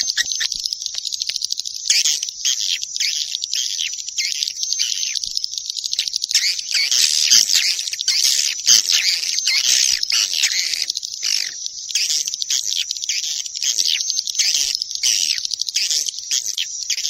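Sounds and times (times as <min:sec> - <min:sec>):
swiftlet chirps and twitters: 0:00.0 - 0:17.0.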